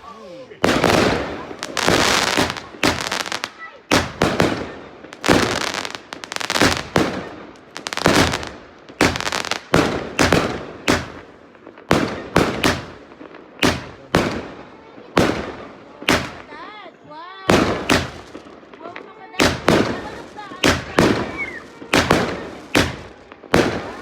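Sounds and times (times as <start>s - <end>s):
fireworks bangs with crackle: 0.0s - 24.0s.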